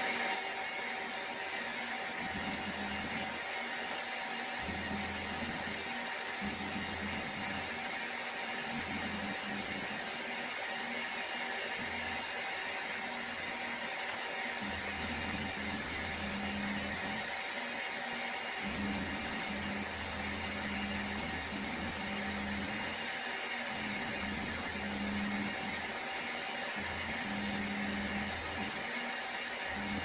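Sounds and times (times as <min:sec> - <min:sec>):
milling machine cutting: 0:00.0 - 0:30.0.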